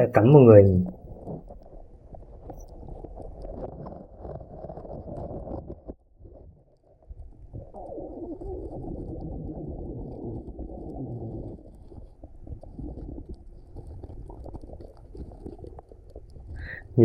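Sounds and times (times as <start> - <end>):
faint crackling clicks underwater: 0.9 - 16.8
underwater air bubbling: 2.8 - 17.0.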